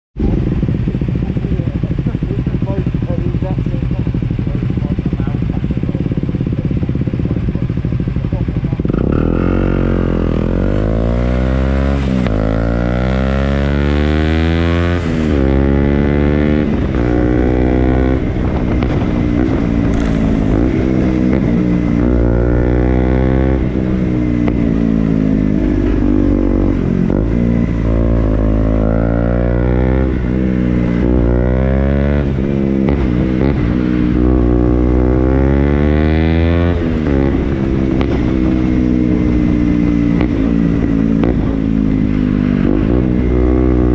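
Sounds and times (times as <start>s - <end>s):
motorcycle engine revving: 0.2s - 43.9s.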